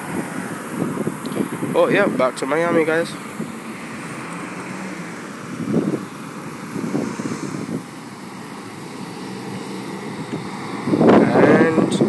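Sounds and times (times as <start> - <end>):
distant jet engine noise: 0.0 - 12.0.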